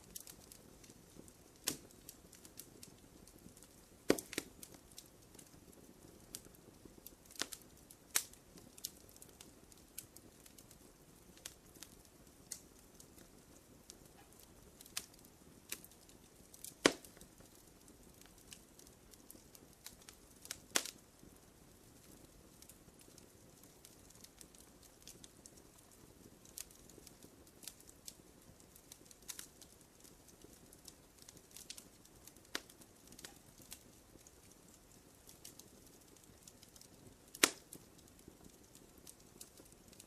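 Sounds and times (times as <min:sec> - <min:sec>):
soft low hiss: 0:00.0 - 0:40.0
wood campfire crackling: 0:00.0 - 0:40.0.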